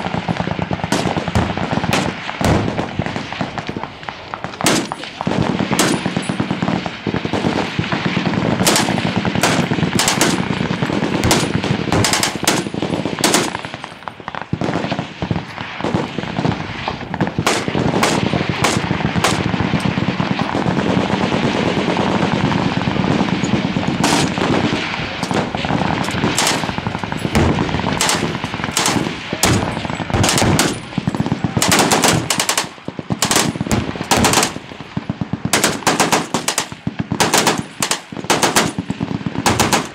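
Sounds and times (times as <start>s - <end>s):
machine gun fire: 0.0s - 3.8s, 4.4s - 15.0s, 15.8s - 39.9s.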